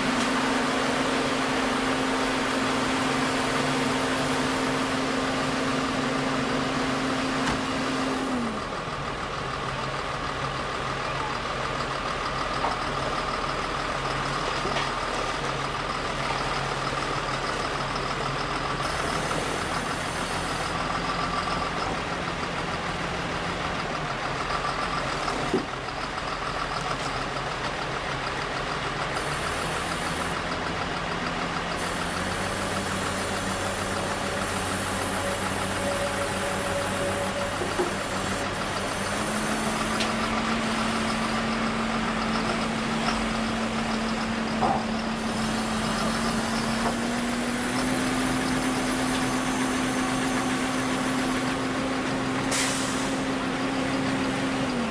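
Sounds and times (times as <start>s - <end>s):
construction machinery engines running: 0.0s - 54.9s.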